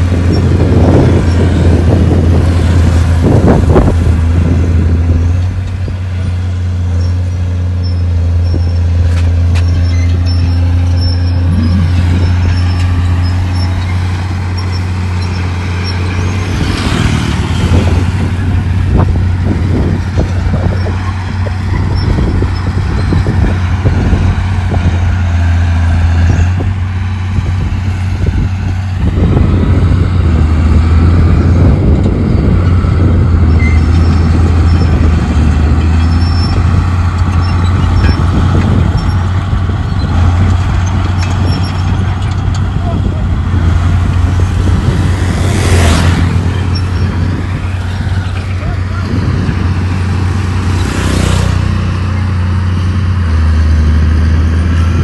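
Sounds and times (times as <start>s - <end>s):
diesel machinery droning: 0.0s - 55.0s.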